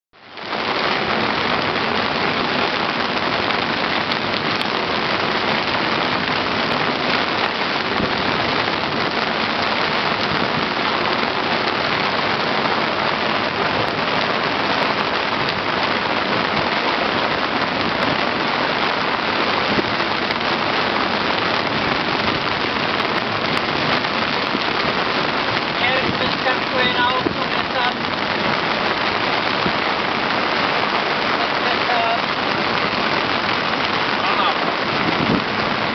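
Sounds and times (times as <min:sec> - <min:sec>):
heavy rain: 0:00.2 - 0:35.9
wind: 0:00.2 - 0:35.9.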